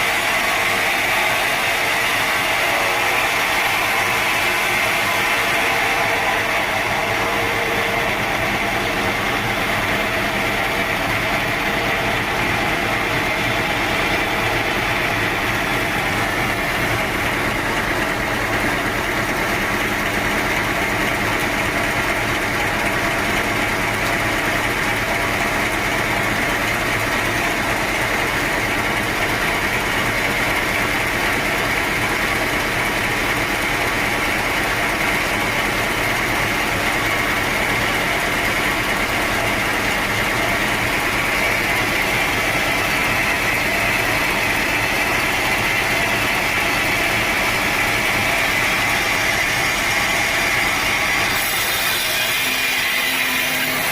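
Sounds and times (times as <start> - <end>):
sawmill machinery running: 0.0 - 53.9.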